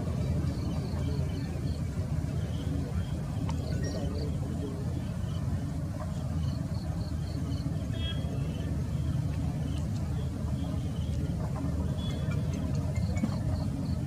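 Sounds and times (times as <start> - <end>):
distant jet engine rumble: 0.0 - 14.0.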